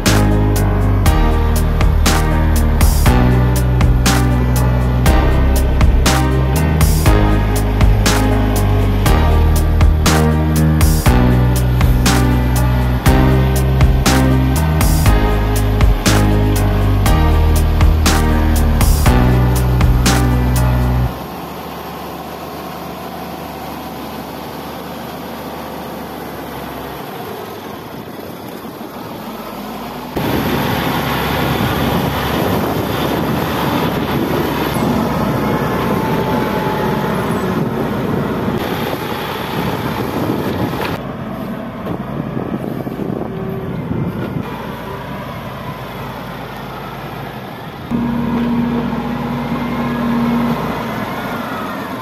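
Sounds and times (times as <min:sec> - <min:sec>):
heavy diesel engine under load: 0:00.0 - 0:52.0.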